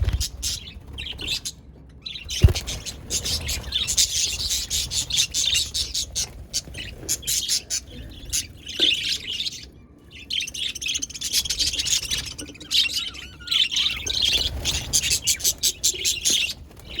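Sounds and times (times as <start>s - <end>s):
budgerigars chirping: 0.0s - 1.6s, 2.2s - 17.0s.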